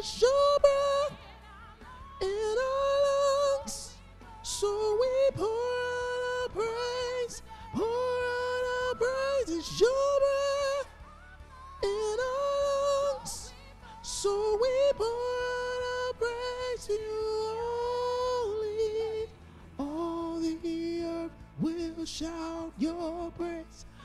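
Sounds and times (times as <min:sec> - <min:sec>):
soprano voice singing: 0:00.0 - 0:24.0.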